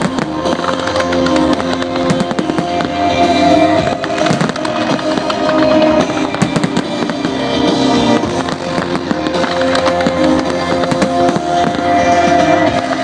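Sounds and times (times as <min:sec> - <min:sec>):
fireworks popping and crackling: 0:00.0 - 0:13.0
loud music over speakers: 0:00.0 - 0:13.0.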